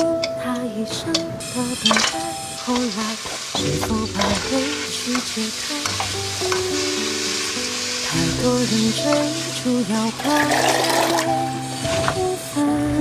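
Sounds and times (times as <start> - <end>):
soft background music: 0.0 - 13.0
food sizzling in a wok: 1.4 - 13.0.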